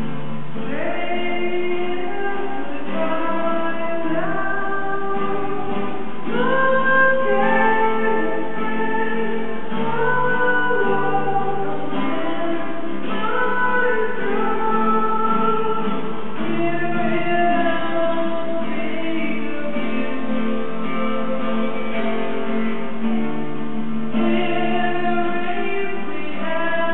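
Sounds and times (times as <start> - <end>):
man singing slow song: 0.0 - 23.1, 24.1 - 26.9.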